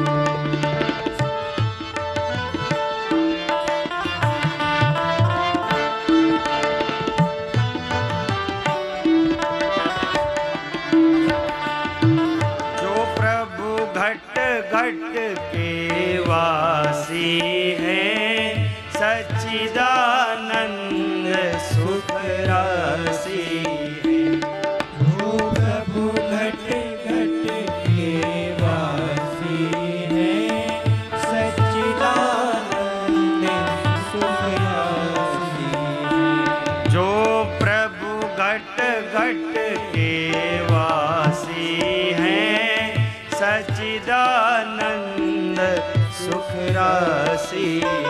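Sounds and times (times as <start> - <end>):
sustained accompaniment: 0.0 - 48.0
tabla playing: 0.0 - 48.0
man singing: 8.1 - 48.0.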